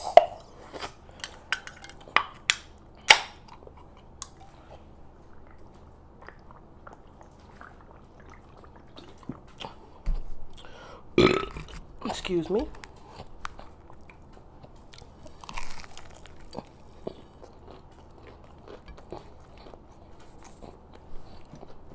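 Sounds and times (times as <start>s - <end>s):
close chewing and mouth sounds: 0.4s - 21.9s.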